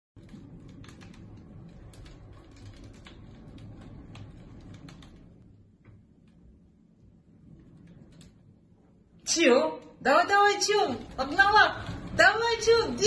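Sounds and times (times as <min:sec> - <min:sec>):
exercise wheel rumbling: 0:00.2 - 0:13.0.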